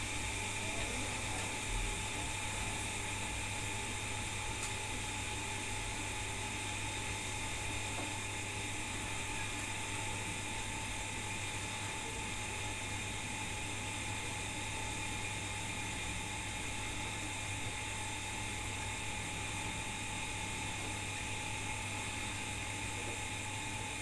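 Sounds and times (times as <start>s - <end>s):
machine whirring hum with hiss: 0.0s - 24.0s.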